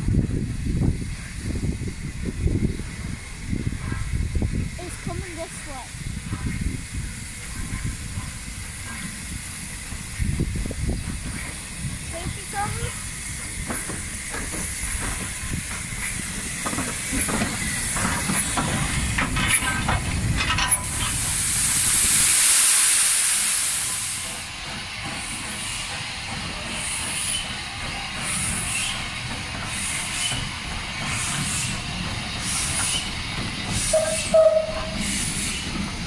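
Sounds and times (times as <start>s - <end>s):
steam hissing: 0.0s - 36.0s
steam locomotive chuffs: 0.0s - 36.0s
steam blowing off: 0.2s - 36.0s.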